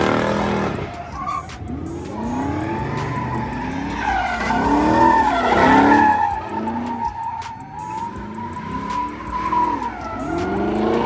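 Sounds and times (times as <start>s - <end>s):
car engine revving: 0.0s - 11.0s
tyres squealing on pavement: 0.0s - 11.0s.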